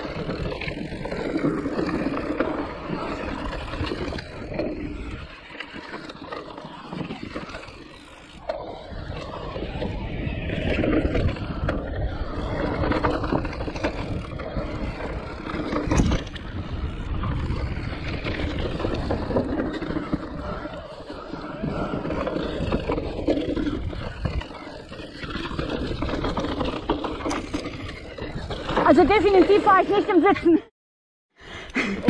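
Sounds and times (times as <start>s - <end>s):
bike rattling and knocking: 0.0s - 8.4s, 10.7s - 30.5s
bike tyres rolling over ground: 0.0s - 30.4s.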